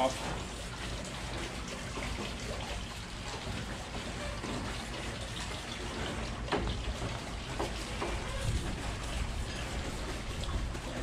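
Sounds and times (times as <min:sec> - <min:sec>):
brush scrubbing wet surface: 0:00.0 - 0:11.0.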